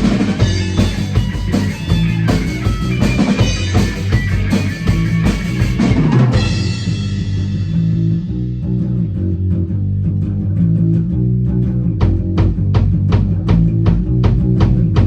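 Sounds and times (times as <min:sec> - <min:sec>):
rock music with drums and guitar: 0:00.0 - 0:09.2, 0:11.9 - 0:15.0.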